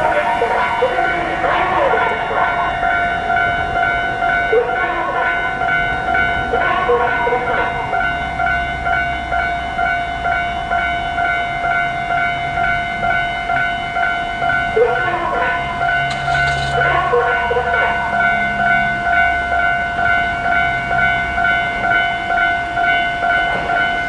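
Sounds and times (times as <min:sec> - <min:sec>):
level-crossing warning bell: 0:00.0 - 0:24.0.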